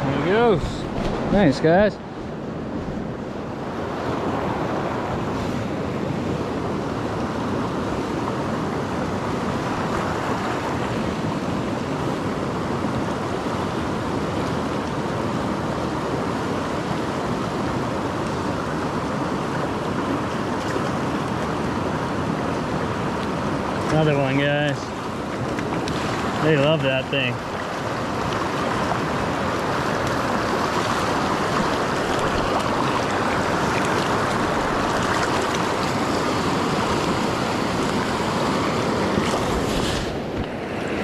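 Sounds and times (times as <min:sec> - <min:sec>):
creek water rushing: 0:00.0 - 0:41.0.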